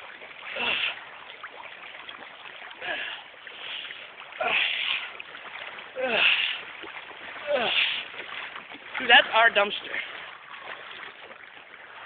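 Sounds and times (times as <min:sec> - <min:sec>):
splashing in water: 0:00.0 - 0:12.0.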